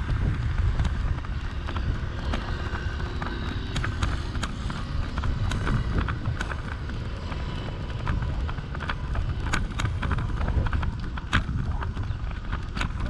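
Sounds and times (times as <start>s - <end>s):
bicycle clicks and rattles: 0.0s - 13.0s
wind rumbling on microphone: 0.0s - 13.0s.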